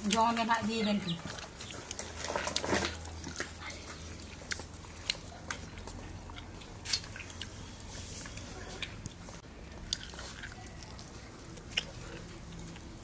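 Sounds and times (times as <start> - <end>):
man chewing and lip smacking: 1.2 - 13.0.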